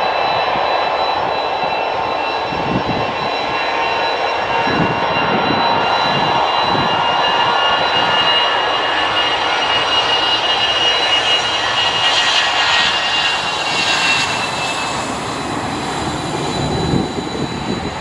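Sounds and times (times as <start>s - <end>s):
airliner engines running loudly: 0.0s - 18.0s.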